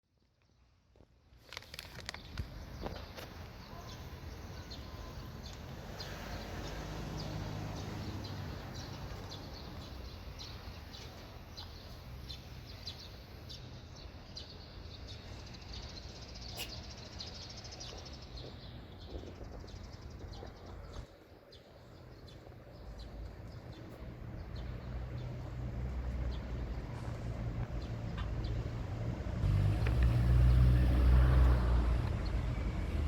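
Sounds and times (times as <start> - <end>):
outdoor background noise: 0.0 - 33.0
small birds chirping: 1.6 - 32.9.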